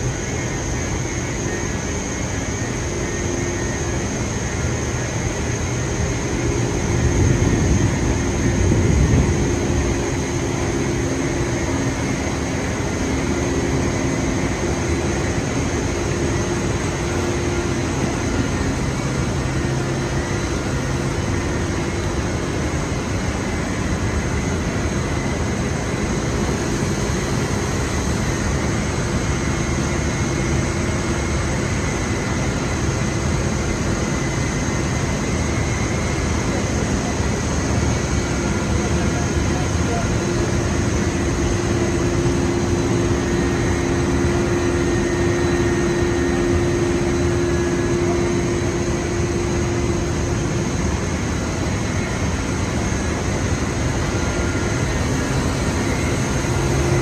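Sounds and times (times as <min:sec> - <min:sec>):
high machine whine: 0:00.0 - 0:57.0
machinery humming: 0:00.0 - 0:57.0.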